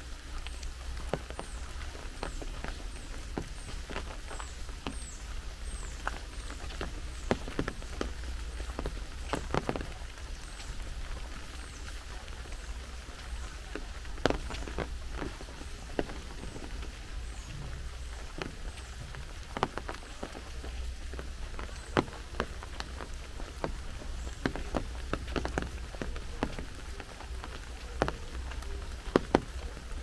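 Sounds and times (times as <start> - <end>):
raindrops tapping close by: 0.0 - 30.0
steady rain hiss: 0.0 - 30.0.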